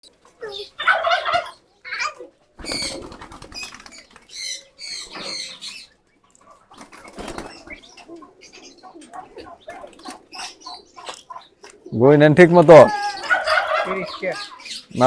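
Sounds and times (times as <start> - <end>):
pigeons squeaky calls: 0.1 - 15.0.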